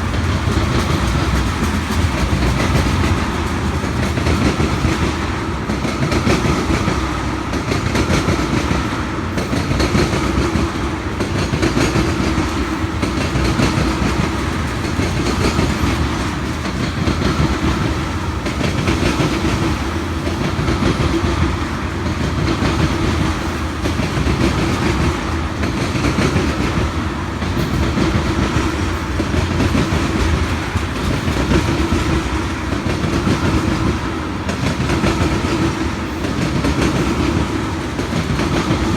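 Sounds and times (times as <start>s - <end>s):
train wheels rolling on rails: 0.0s - 38.9s.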